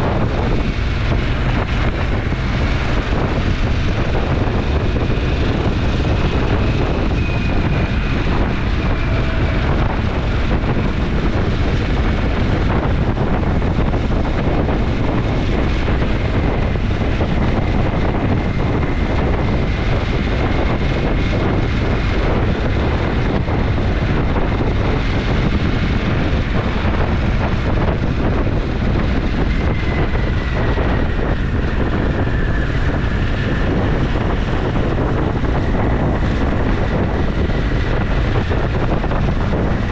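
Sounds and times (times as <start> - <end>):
motorcycle engine drone: 0.0 - 39.9
wind rush on microphone: 0.0 - 39.9.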